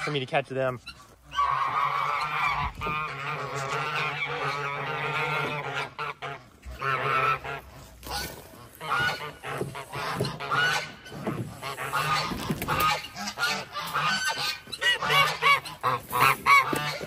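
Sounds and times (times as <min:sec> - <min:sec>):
geese honking loudly: 0:00.0 - 0:17.0.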